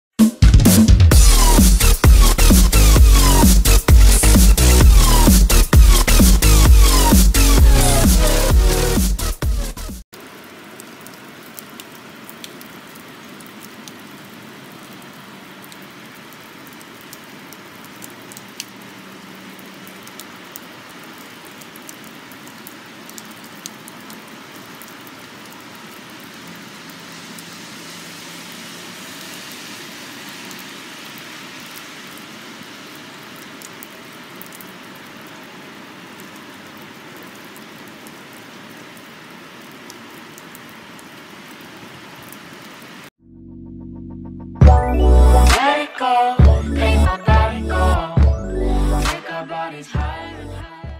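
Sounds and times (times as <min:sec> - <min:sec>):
rain on wet asphalt: 0:01.1 - 0:09.0, 0:10.1 - 0:43.1.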